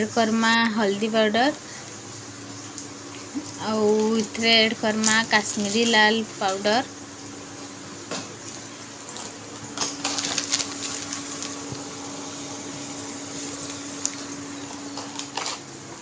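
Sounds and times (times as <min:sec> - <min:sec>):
onions frying in oil: 0:00.0 - 0:16.0.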